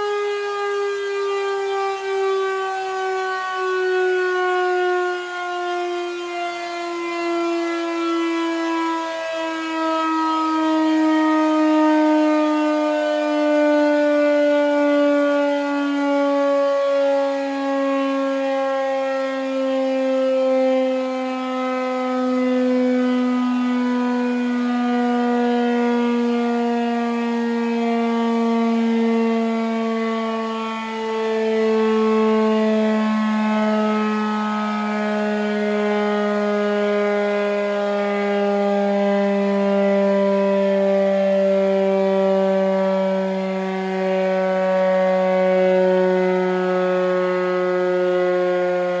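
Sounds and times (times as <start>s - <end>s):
warning siren winding down: 0.0s - 49.0s.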